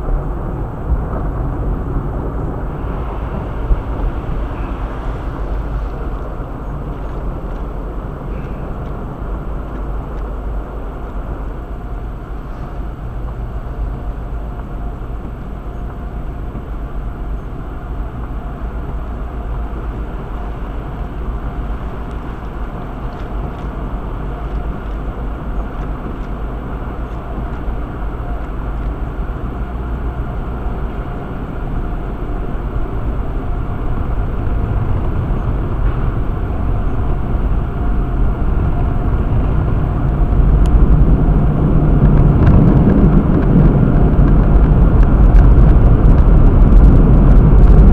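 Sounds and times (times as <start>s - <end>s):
car road and engine noise: 0.0s - 47.9s.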